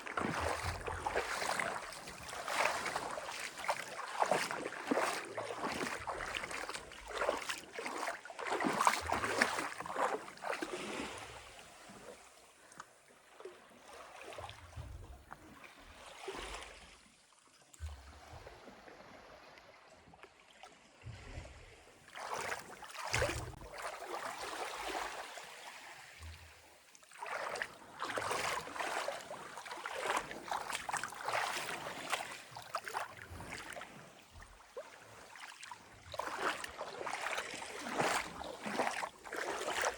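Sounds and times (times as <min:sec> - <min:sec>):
small waves lapping and splashing: 0:00.0 - 0:39.9.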